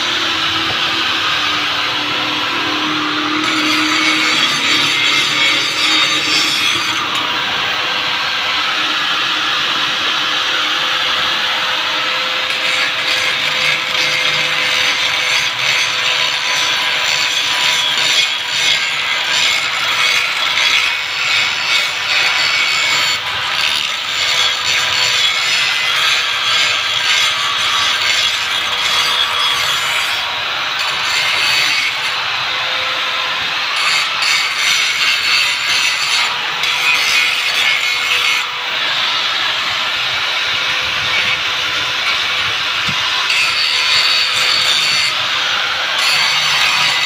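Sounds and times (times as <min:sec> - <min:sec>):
angle grinder grinding metal: 0:00.0 - 0:47.0.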